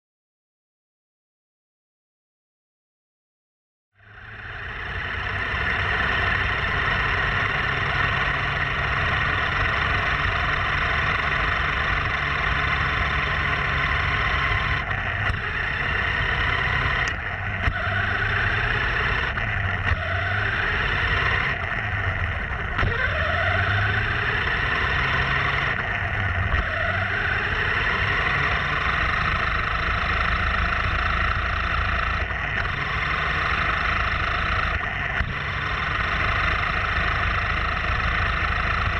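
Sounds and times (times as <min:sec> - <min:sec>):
toy truck motor running: 0:04.1 - 0:38.9.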